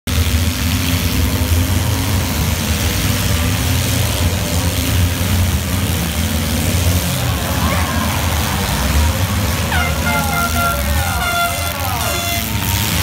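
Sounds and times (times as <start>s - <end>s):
car engines rumbling: 0.1s - 13.0s.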